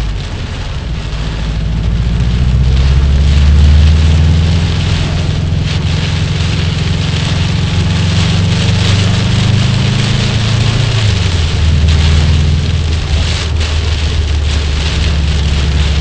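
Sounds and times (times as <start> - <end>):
car engine and road hum: 0.0 - 16.0
rain hissing: 0.0 - 16.0
wet tyres on road: 0.0 - 16.0.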